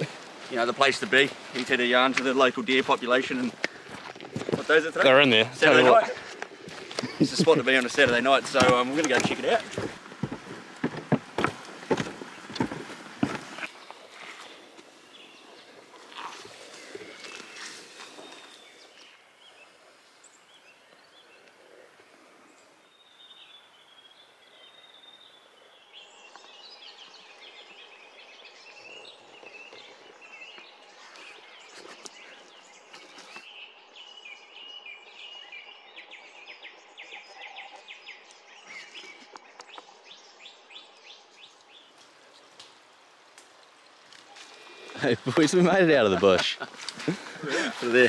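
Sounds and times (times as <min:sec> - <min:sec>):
faint birdsong chirps and trills: 0:00.0 - 0:48.0.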